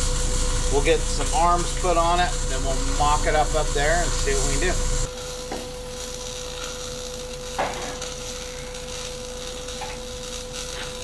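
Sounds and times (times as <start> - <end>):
steady hum with hiss: 0.0 - 11.0.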